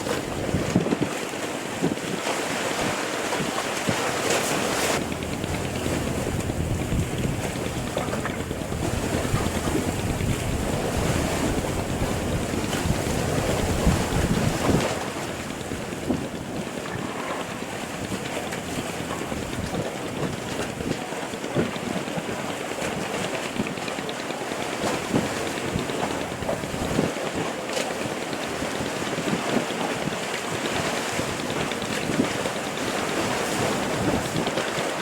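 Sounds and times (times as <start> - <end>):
sea water washing around boat: 0.0 - 35.0
wind buffeting microphone: 0.0 - 35.0.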